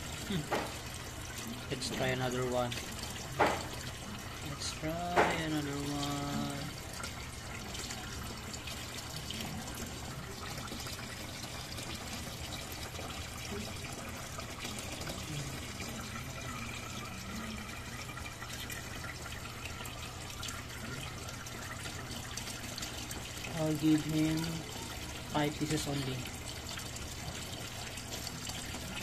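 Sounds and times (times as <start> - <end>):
water trickling: 0.0 - 29.0.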